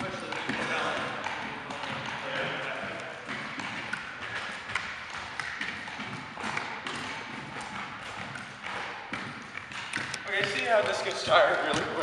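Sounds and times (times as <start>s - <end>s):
rubber feet tapping on gym floor: 0.0s - 12.0s.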